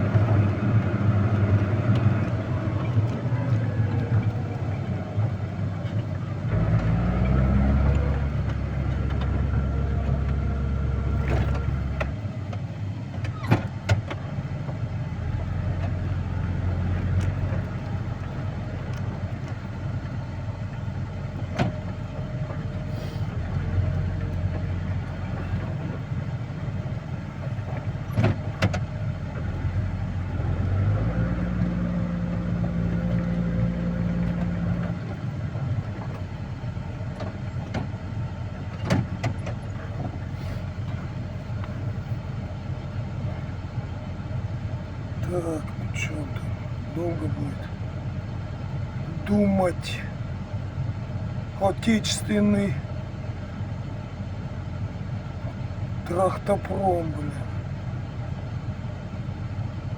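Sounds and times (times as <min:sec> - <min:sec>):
heavy vehicle engine revving: 0:00.0 - 0:53.0.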